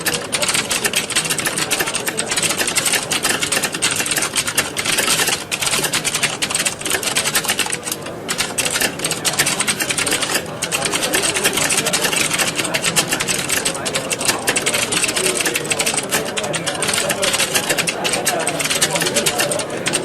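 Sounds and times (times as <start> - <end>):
keyboards typing clatter: 0.0 - 20.0.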